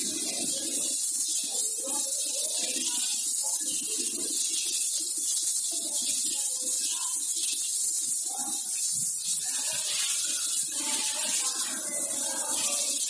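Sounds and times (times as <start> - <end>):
faint indistinct voices: 0.0 - 13.0
high-pitched hiss: 0.0 - 13.0.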